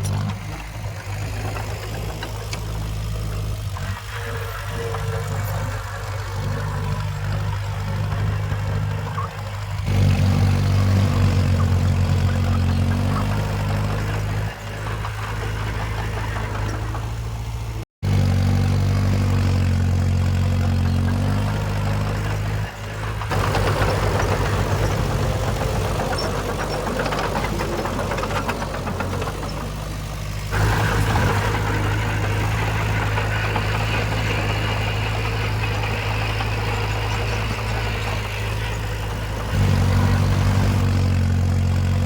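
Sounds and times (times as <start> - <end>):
heavy machinery diesel engine running: 0.0 - 42.0.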